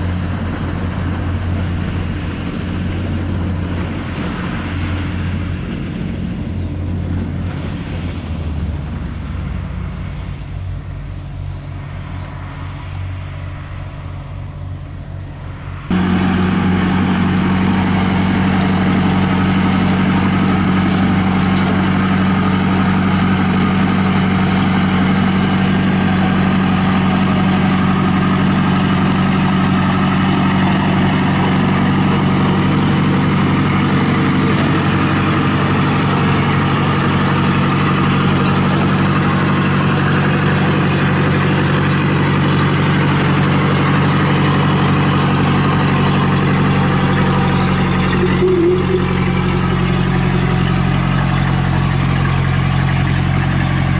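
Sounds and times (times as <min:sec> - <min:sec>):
diesel engine running steadily: 0:00.0 - 0:53.9.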